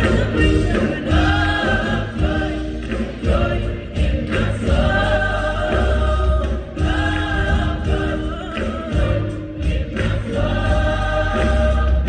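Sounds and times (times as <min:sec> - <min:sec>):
choir singing with accompaniment: 0:00.0 - 0:12.0.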